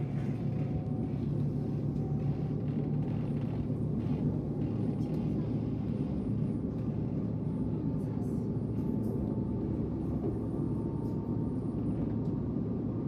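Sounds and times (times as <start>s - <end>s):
train rumbling from inside: 0.0s - 13.0s.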